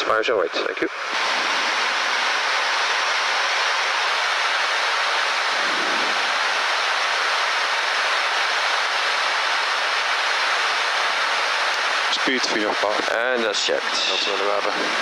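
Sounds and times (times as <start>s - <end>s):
rushing airflow in cockpit: 0.9s - 15.0s.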